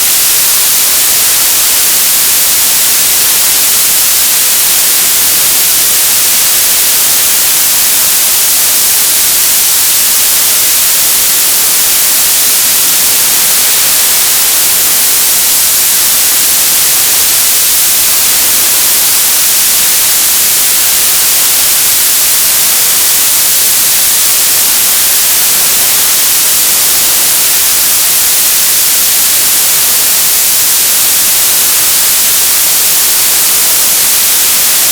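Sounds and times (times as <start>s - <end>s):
television static hiss: 0.0s - 34.9s.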